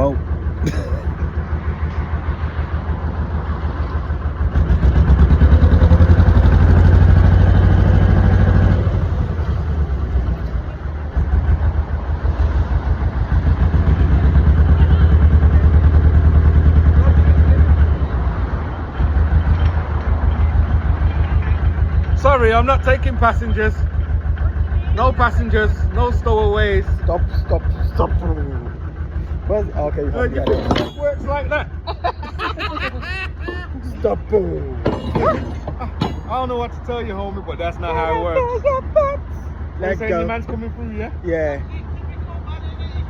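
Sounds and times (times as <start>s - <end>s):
boat diesel engine chugging: 0.0s - 43.0s.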